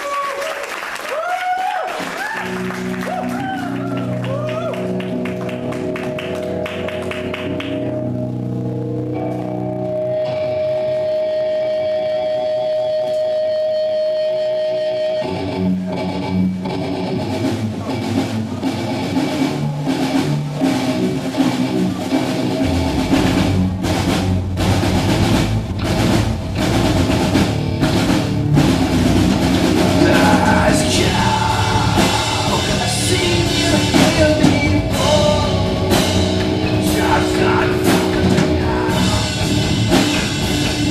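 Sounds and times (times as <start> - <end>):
drums: 0.0 - 40.9
electric guitar: 1.8 - 40.9
live rock band playing: 1.8 - 40.9.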